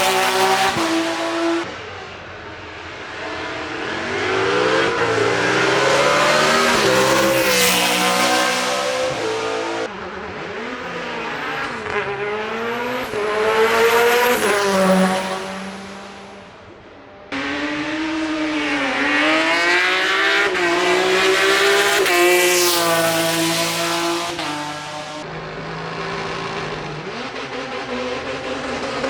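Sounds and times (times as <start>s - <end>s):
race car accelerating hard: 0.0s - 29.0s
second race car accelerating: 0.0s - 29.0s.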